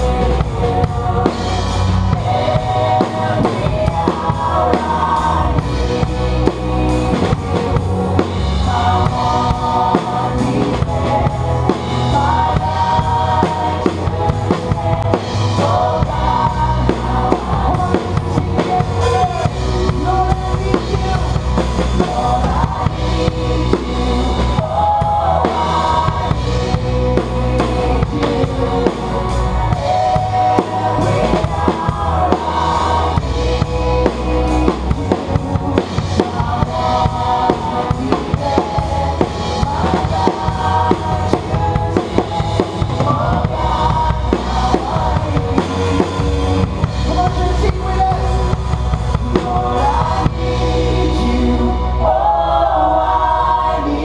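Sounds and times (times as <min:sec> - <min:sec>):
acoustic drum kit beat: 0:00.0 - 0:51.7
band music: 0:00.0 - 0:54.0.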